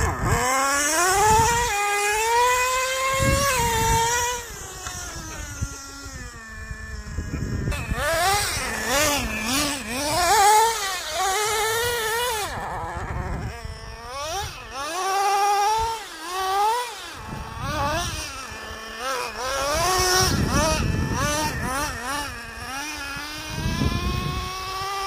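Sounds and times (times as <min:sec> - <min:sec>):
nitro engine revving: 0:00.0 - 0:25.0.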